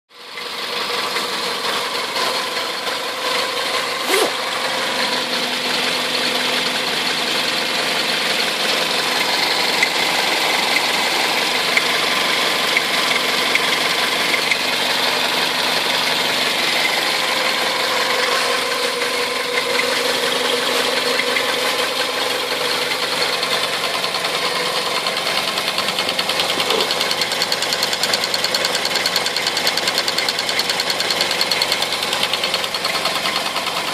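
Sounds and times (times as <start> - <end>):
engine running with knock: 0.2 - 33.9.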